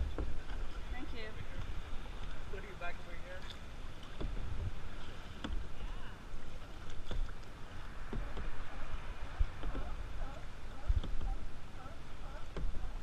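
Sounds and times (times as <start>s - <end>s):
paddle knocking: 0.0s - 13.0s
paddle strokes in water: 0.0s - 13.0s
steady low rumble: 0.0s - 13.0s.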